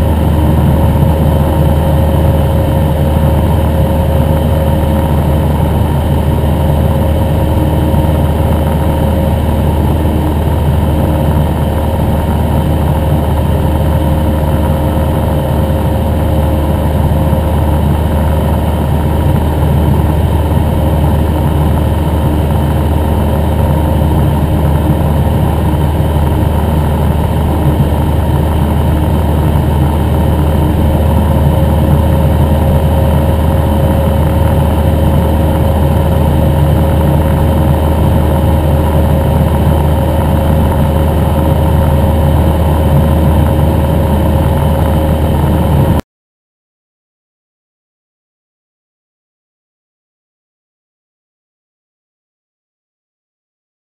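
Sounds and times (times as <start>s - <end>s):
airplane engine and propeller drone: 0.0s - 46.0s.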